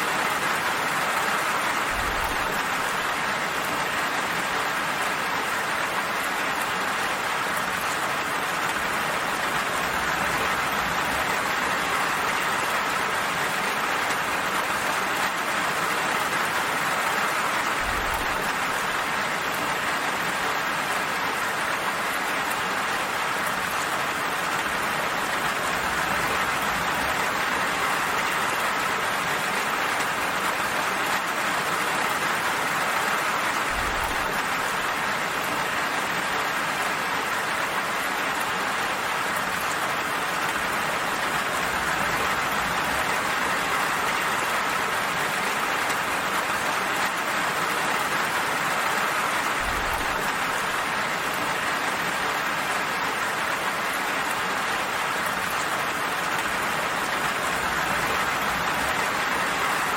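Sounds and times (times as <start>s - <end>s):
gentle rain falling: 0.0s - 59.9s.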